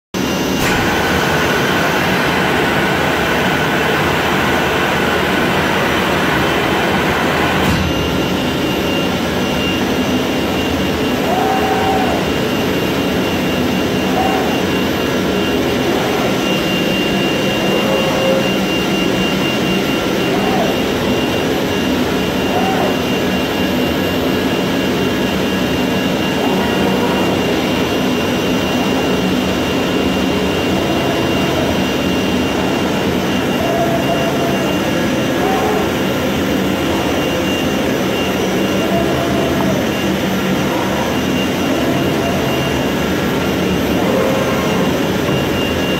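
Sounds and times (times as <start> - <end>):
faint cutting head whines: 7.5 - 45.9.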